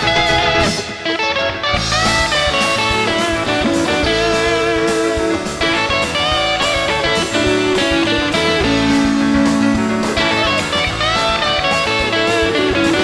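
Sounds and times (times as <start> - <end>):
drum beat with cymbals: 0.0 - 1.0, 1.8 - 13.0
electric guitar melody: 0.0 - 13.0.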